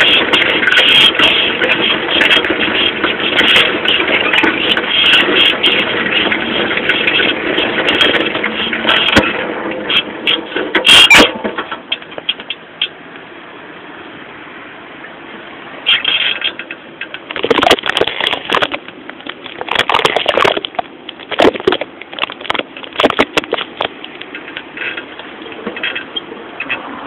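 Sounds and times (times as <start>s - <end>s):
bicycle rolling over pavement: 0.0s - 12.6s, 15.9s - 27.0s
bicycle clattering and rattling: 0.0s - 13.0s, 15.8s - 27.0s.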